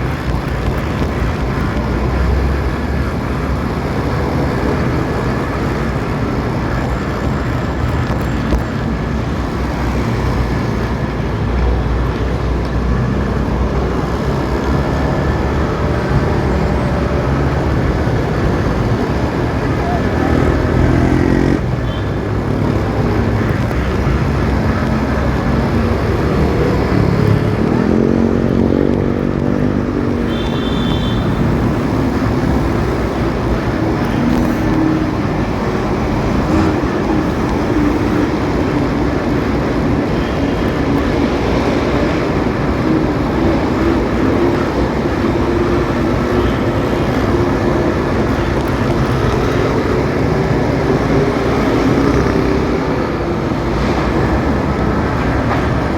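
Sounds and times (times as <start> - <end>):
road and wind noise: 0.0 - 55.9.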